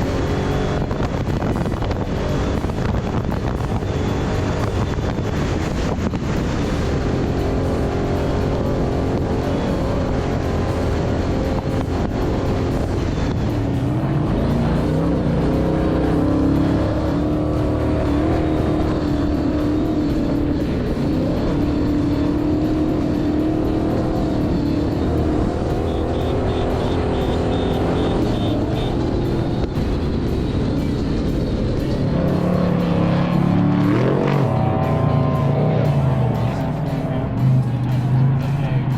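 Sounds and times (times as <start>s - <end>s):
music: 0.0s - 38.9s
race vehicle engine revving: 0.0s - 38.9s.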